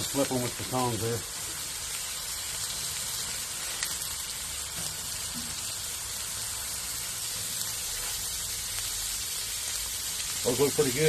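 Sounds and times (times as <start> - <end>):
steaks sizzling on a griddle: 0.0 - 11.0.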